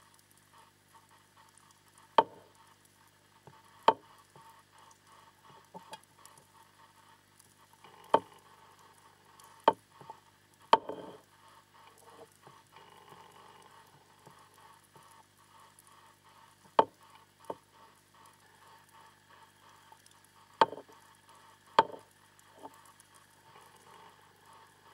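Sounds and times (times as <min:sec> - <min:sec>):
faint underwater crackle: 0:00.0 - 0:24.9.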